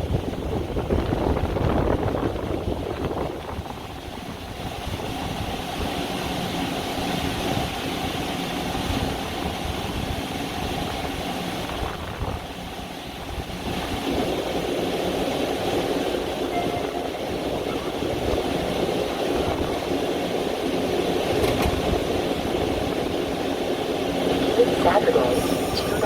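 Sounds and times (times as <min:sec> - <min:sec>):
train running with mechanical hum: 0:00.0 - 0:26.0.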